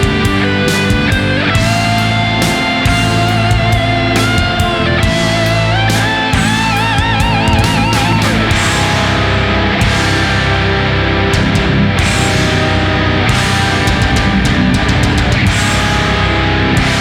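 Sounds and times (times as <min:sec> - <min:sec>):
guitar lead note bending: 0:00.0 - 0:17.0
heavy rock music: 0:00.0 - 0:17.0.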